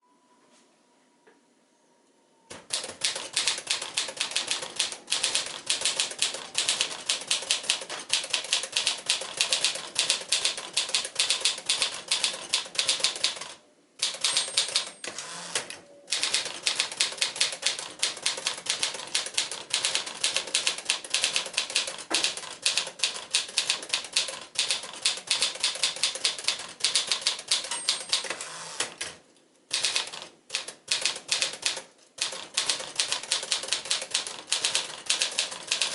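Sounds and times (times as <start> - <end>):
typewriter keystroke clacks: 2.5 - 35.9.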